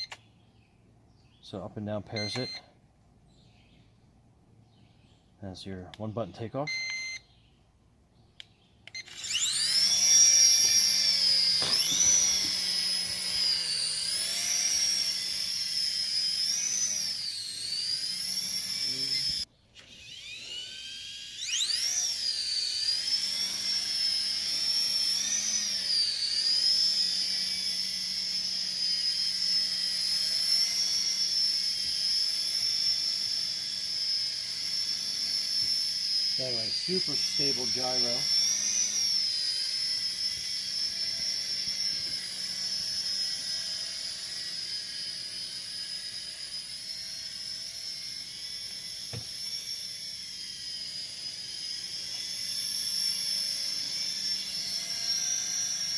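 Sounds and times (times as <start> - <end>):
toy helicopter motor whining: 0.0 - 0.3, 2.1 - 2.7, 8.8 - 55.9.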